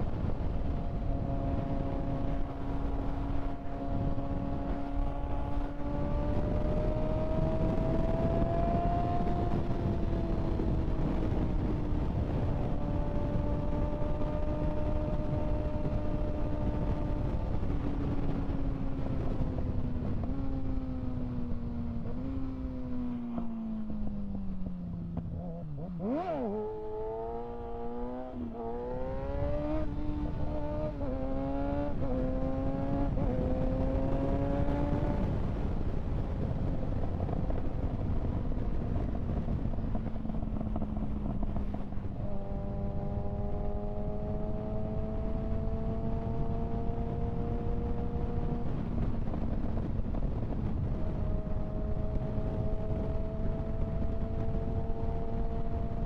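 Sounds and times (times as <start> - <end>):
wind rushing over microphone: 0.0 - 56.0
motorcycle engine revving: 0.1 - 56.0.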